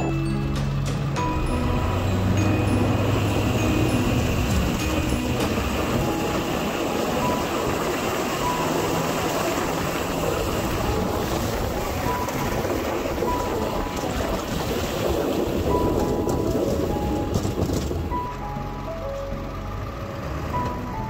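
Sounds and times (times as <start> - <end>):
snow whooshing off plow blade: 0.0 - 18.4.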